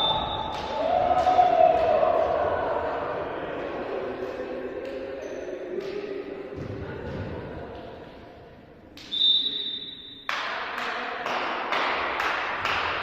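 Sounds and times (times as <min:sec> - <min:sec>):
murmur of voices in a hall: 0:00.0 - 0:12.8.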